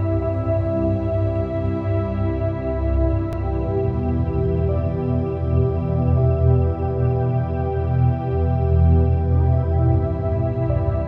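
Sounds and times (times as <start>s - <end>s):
slow ambient music: 0.0s - 11.0s.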